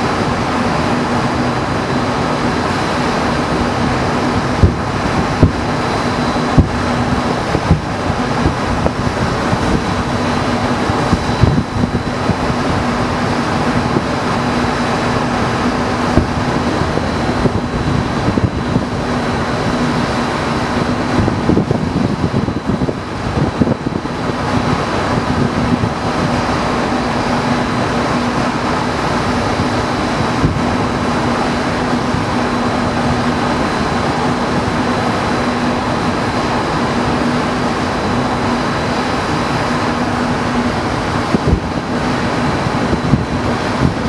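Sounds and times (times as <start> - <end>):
low hum: 0.0 - 44.0
wind rumble on microphone: 0.0 - 44.0.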